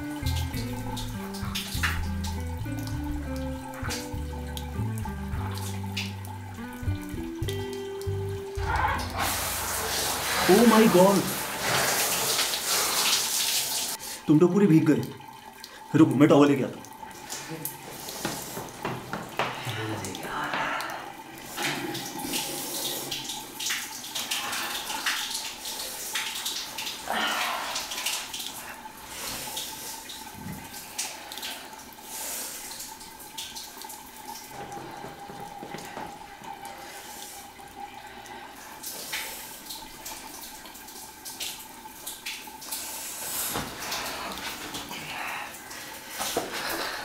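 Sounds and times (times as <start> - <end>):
tap water running: 0.0 - 47.0.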